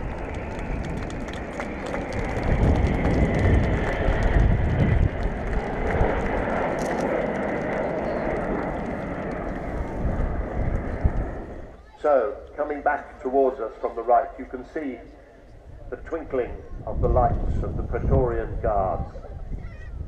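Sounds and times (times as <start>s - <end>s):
military jet flying past: 0.0s - 20.0s.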